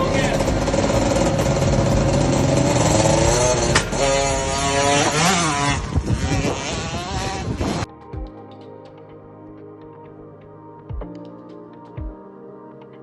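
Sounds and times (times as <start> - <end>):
quiet background music: 0.0 - 6.8, 7.8 - 13.0.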